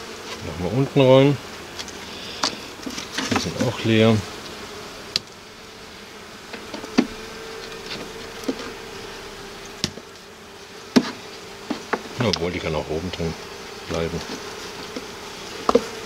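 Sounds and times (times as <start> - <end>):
honeybees buzzing: 0.0 - 16.0
wooden hive frames knocking: 0.4 - 5.4, 6.1 - 16.0.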